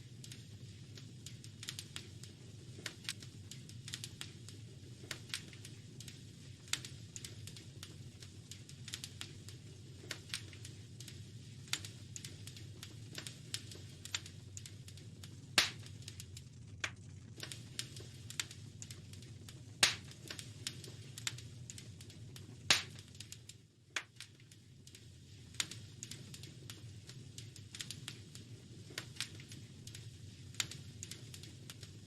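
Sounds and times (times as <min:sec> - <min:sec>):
wood fire crackling: 0:00.0 - 0:32.0
loud fire pops: 0:00.2 - 0:32.0.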